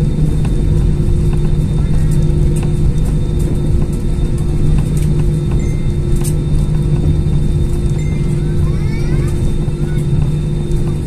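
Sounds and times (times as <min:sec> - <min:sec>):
jet engines and wheels rumbling: 0:00.0 - 0:11.0.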